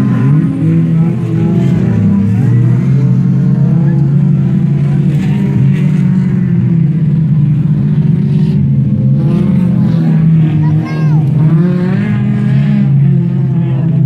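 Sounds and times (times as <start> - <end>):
race car engines revving: 0.0 - 14.0.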